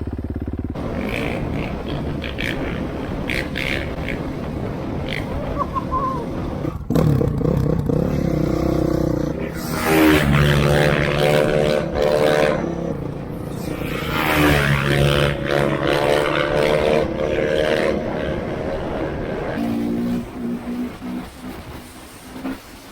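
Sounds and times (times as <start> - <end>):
dirt bike engine revving: 0.0 - 22.7.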